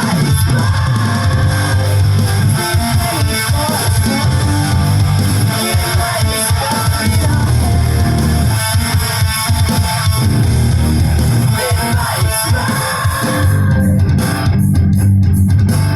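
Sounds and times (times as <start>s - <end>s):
rock music: 0.0s - 15.9s.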